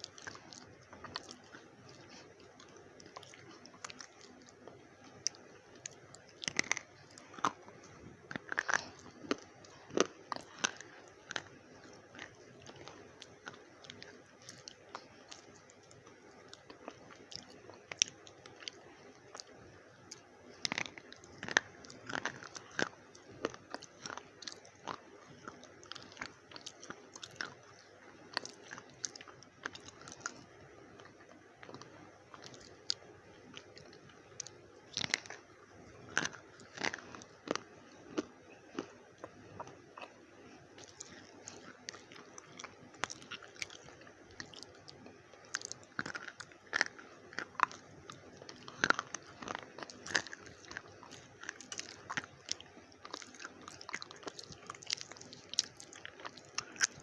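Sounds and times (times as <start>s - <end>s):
quiet chewing: 0.0s - 57.0s.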